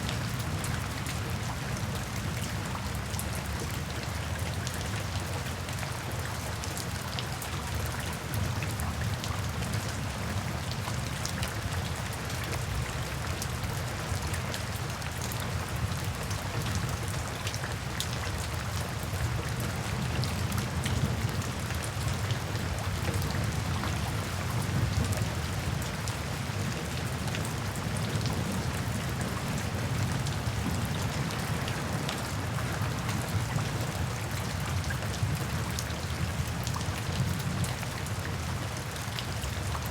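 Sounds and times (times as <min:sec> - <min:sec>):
raindrops pattering: 0:00.1 - 0:39.9.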